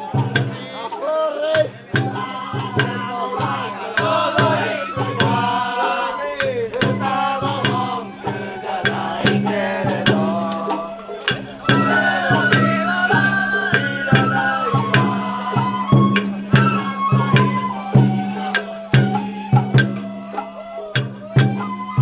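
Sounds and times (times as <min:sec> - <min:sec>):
sharp metallic beats: 0:00.0 - 0:21.7
bamboo flute melody: 0:00.0 - 0:22.0
taiko drum strokes: 0:01.5 - 0:22.0.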